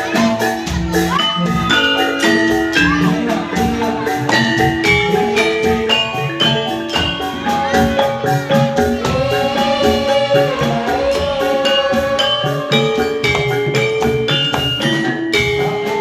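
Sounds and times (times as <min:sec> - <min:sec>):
bronze metallophones ringing: 0:00.0 - 0:16.0
percussion: 0:00.0 - 0:16.0.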